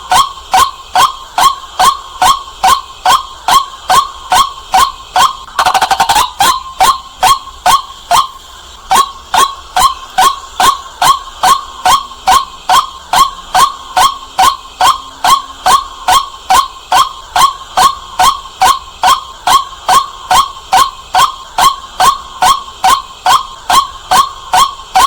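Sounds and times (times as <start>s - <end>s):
waterhen calling sharp notes: 0.1s - 25.0s.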